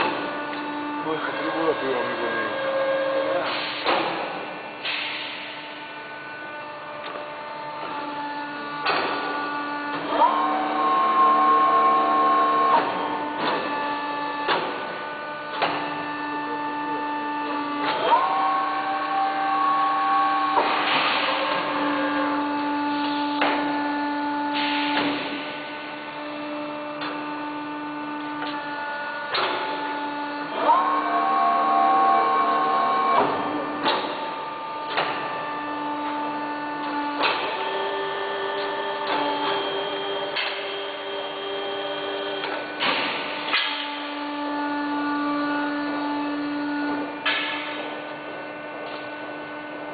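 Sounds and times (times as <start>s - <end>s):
tube bender motor whine: 0.0s - 49.9s.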